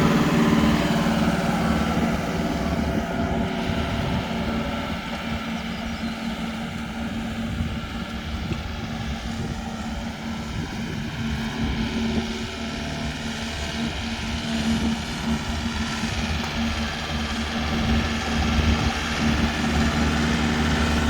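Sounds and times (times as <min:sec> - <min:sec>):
mulch blower engine drone: 0:00.0 - 0:21.0.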